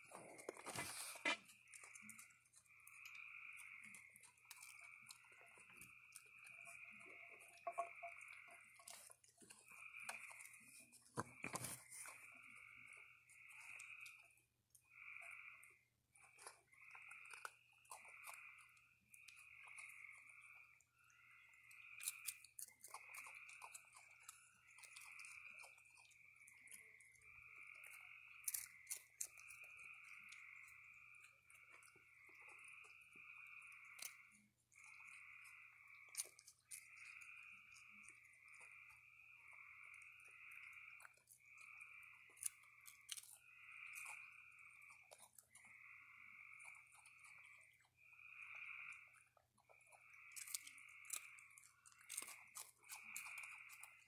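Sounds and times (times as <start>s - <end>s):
frogs trilling: 0.0s - 54.0s
raccoons crunching dry food: 0.0s - 54.0s.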